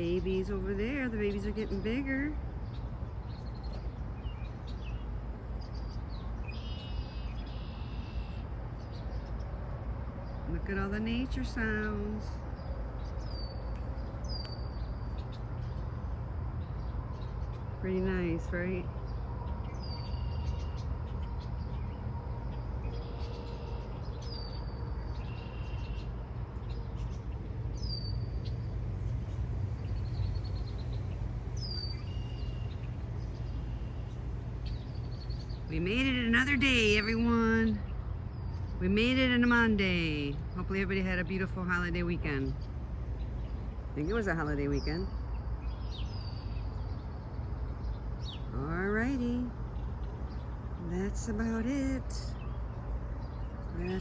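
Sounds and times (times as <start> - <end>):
buzzy trilled bird song: 0.0 - 9.5, 10.2 - 54.0
low outdoor rumble: 0.0 - 54.0
small birds chirping: 0.0 - 54.0.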